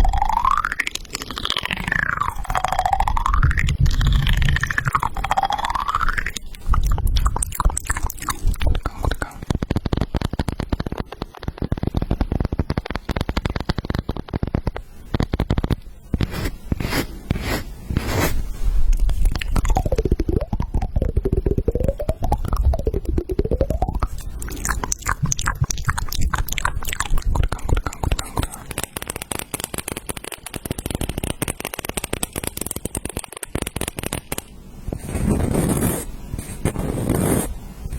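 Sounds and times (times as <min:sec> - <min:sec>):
chewing and crunching food: 0:00.0 - 0:15.8, 0:18.9 - 0:34.0.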